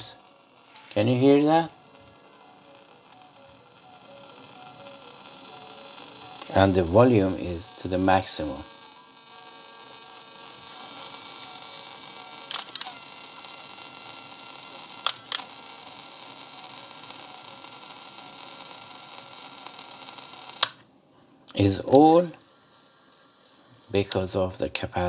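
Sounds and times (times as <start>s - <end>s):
cassette player hiss with thin tones: 0.0s - 25.0s.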